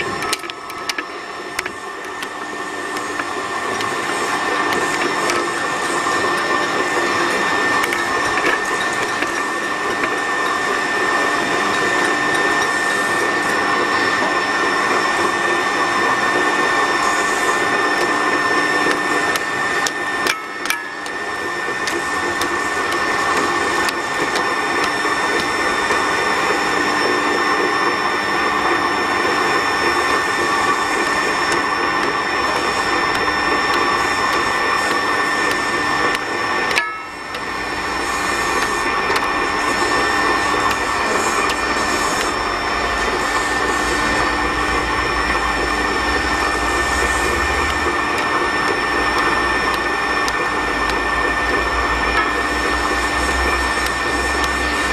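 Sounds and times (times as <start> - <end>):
electric winch whining: 0.0 - 54.9.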